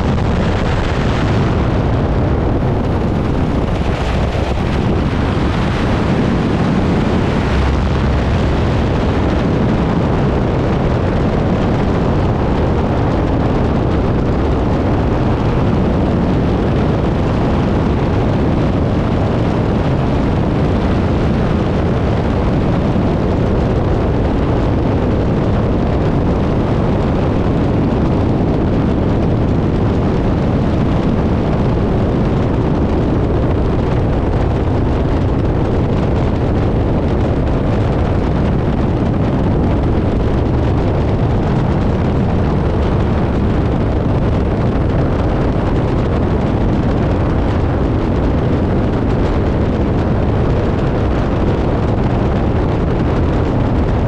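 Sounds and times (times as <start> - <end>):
plane engine and propeller drone: 0.0 - 54.0
wind rushing over microphone: 0.0 - 54.0.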